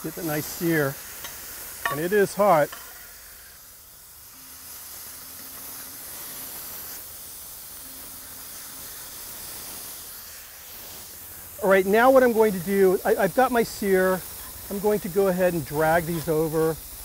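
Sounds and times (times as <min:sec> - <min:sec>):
burger patties sizzling: 0:00.0 - 0:17.0.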